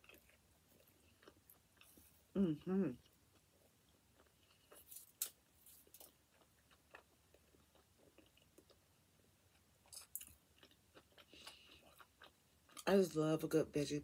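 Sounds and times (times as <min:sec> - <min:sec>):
chewing with mouth smacks: 0:00.0 - 0:08.9, 0:09.5 - 0:12.9.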